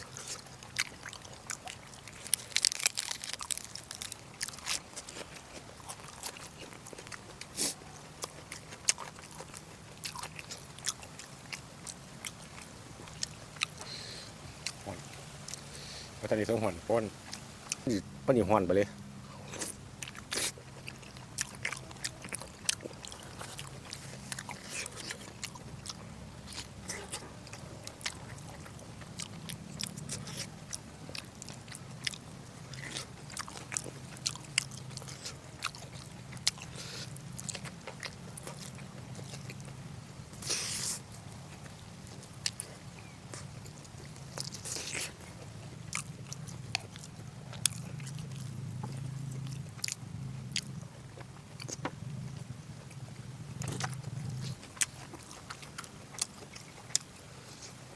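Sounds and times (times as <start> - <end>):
person chewing with wet clicks: 0.0 - 15.8, 17.2 - 18.0, 19.0 - 57.9
low steady hum: 0.0 - 57.9.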